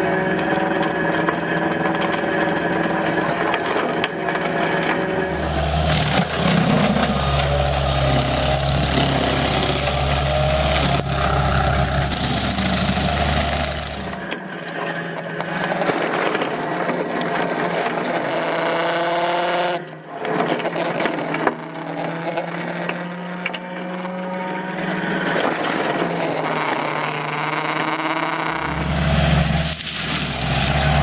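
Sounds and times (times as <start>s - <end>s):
heavy machinery whining: 0.0s - 20.4s, 24.8s - 31.0s
machine engine hum rising in pitch: 0.0s - 31.0s.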